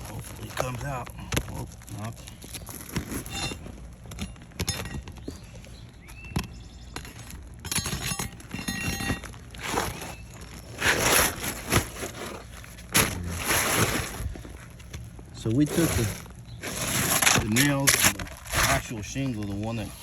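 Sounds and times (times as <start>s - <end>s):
shingles scraping and crackling: 0.0s - 20.0s.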